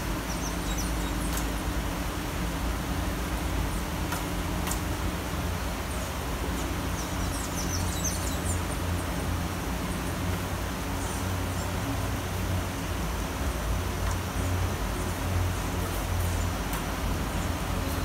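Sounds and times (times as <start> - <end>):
birds chirping: 0.0 - 18.0
low traffic rumble: 0.0 - 18.0
rain hiss: 0.0 - 18.0.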